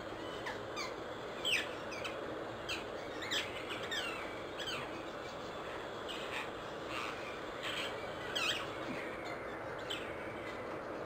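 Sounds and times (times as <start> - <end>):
parakeet calling: 0.1 - 10.6.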